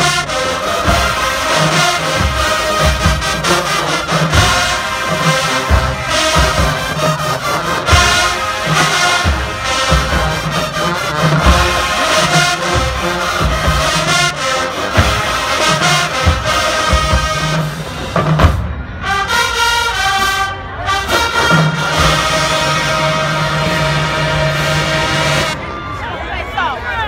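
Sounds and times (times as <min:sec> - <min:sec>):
brass chords: 0:00.0 - 0:26.1.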